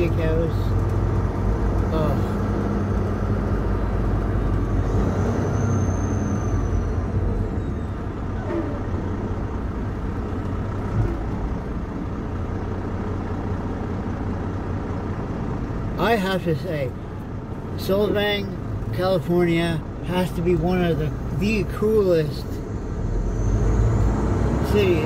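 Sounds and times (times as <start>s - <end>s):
diesel truck engine running: 0.0s - 25.0s
road noise: 0.0s - 25.0s.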